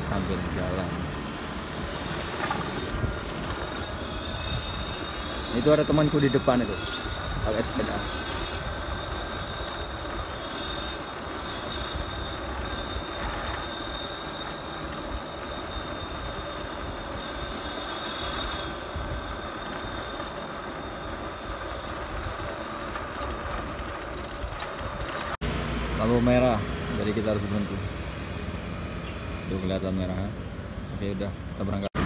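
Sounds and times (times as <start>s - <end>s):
faint high whine: 0.0s - 30.4s.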